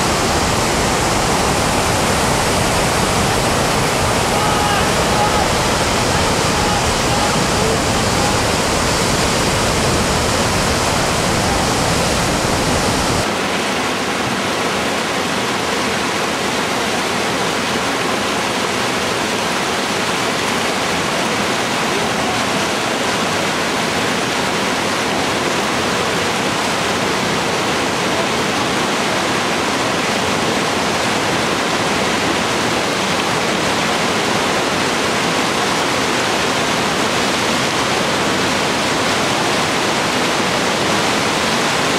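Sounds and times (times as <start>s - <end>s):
whitewater rapids rushing: 0.0s - 41.9s.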